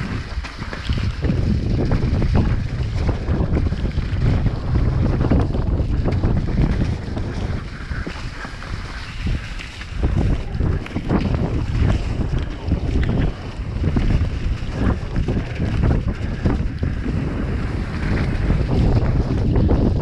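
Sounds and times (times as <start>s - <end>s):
bike knocks and rattles: 0.0s - 20.0s
tyres running through mud: 0.0s - 20.0s
wind buffeting microphone: 0.0s - 20.0s.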